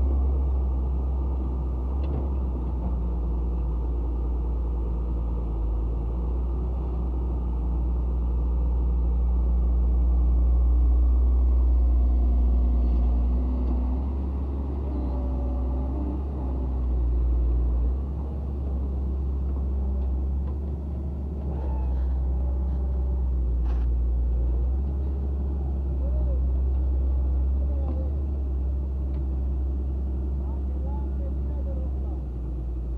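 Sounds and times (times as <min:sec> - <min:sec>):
diesel machinery rumbling: 0:00.0 - 0:32.9.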